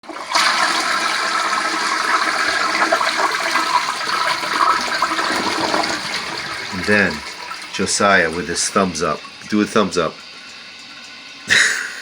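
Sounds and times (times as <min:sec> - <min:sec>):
toilet flushing: 0:00.0 - 0:12.0.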